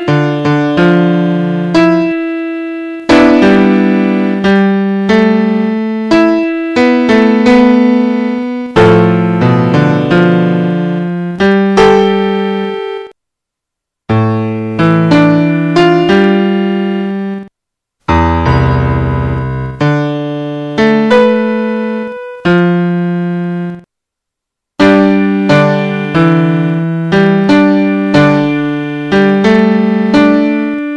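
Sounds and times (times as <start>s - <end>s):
slow piano music: 0.0s - 13.2s, 14.1s - 17.5s, 18.1s - 23.9s, 24.8s - 30.9s.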